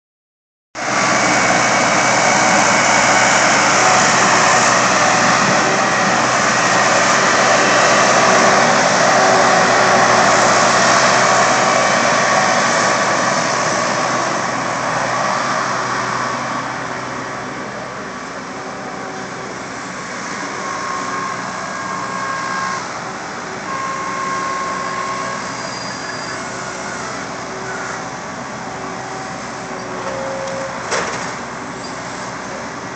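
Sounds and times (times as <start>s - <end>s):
loader engine running: 0.8s - 32.9s.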